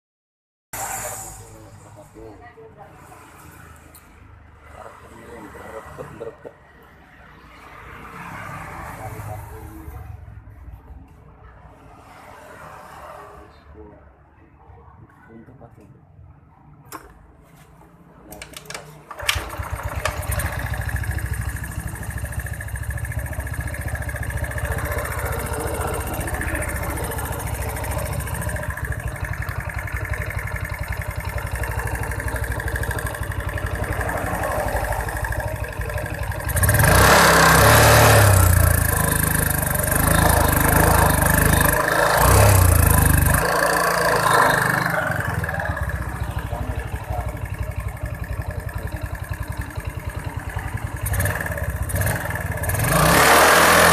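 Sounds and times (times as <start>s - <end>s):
scooter engine idling and revving: 0.8s - 53.9s.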